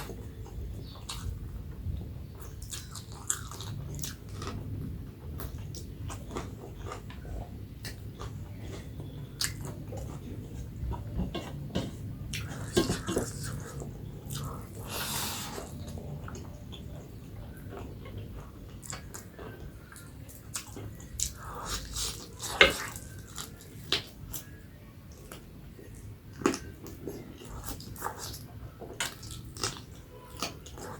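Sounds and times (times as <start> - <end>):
chewing and biting food: 2.4 - 30.9.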